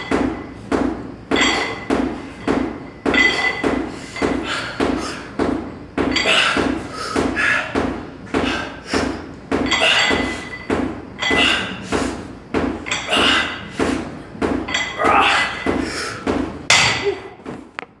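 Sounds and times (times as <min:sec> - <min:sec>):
sharp ringing knocks and clanks: 0:00.0 - 0:17.2.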